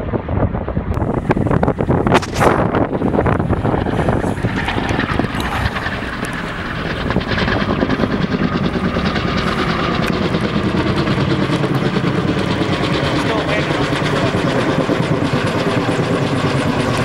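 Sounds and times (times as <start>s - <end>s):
helicopter rotor blades chopping: 0.0s - 17.0s.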